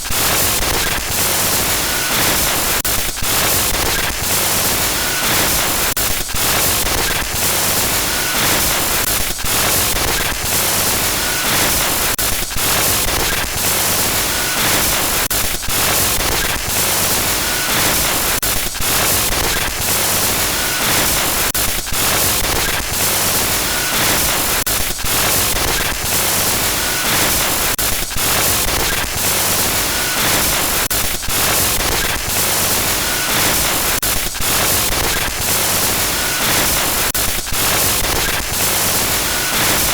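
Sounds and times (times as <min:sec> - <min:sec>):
glitchy static hiss: 0:00.1 - 0:39.9.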